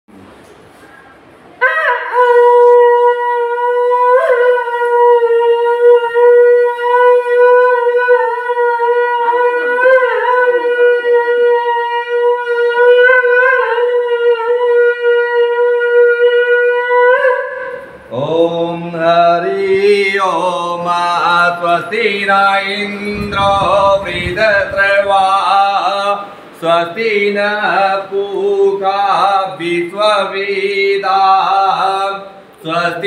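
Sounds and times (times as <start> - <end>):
man chanting: 2.2 - 17.3, 18.1 - 33.0.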